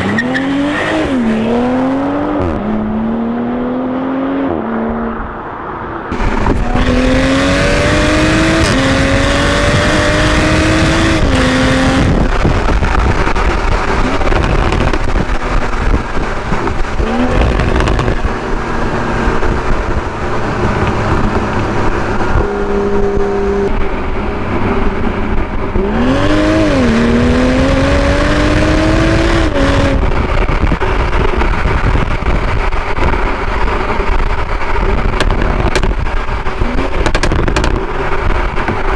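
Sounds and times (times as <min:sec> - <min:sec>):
car exhaust accelerating hard: 0:00.0 - 0:38.9.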